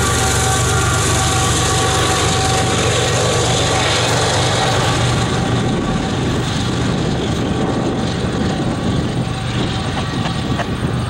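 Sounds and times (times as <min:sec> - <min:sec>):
diesel locomotive engine drone: 0:00.0 - 0:11.0
wheel-on-rail rumble: 0:00.0 - 0:11.0.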